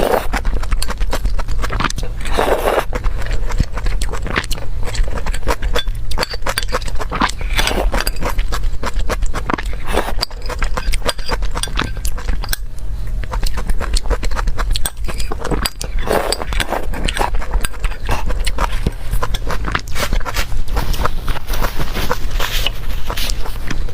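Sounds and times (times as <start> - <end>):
person chewing with wet smacks: 0.0 - 23.9
steady low hum: 0.0 - 23.9.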